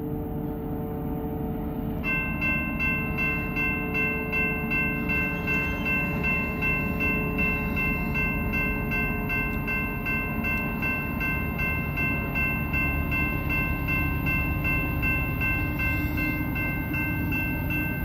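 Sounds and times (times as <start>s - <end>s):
crossing warning bell ringing: 1.8s - 18.0s.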